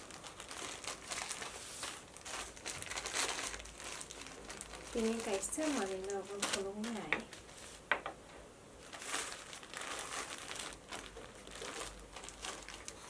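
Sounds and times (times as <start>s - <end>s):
plastic packaging crinkling: 0.0s - 8.1s, 8.8s - 13.0s.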